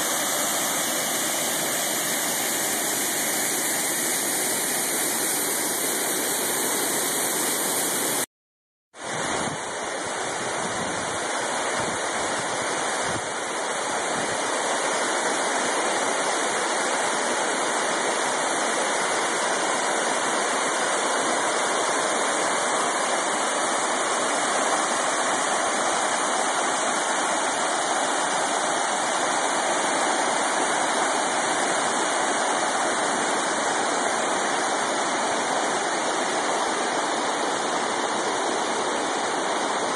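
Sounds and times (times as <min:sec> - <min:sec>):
waterfall roaring: 0:00.0 - 0:08.2, 0:09.1 - 0:39.9.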